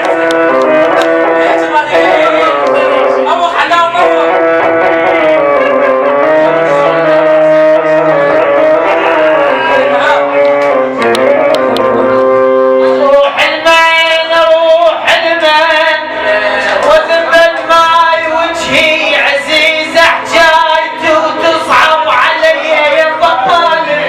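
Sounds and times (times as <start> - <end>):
ornamented melody: 0.0 - 24.0.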